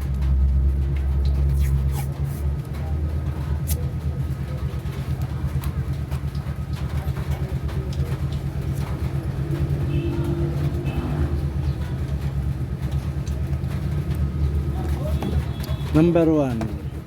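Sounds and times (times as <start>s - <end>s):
fan motor humming with flutter: 0.0s - 17.0s.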